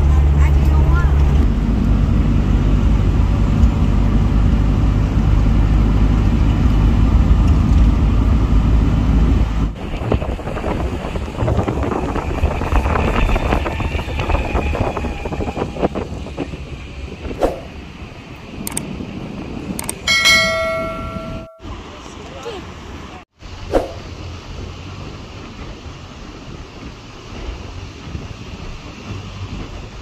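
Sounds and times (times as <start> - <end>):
engine and road rumble: 0.0 - 30.0
wind: 0.0 - 30.0.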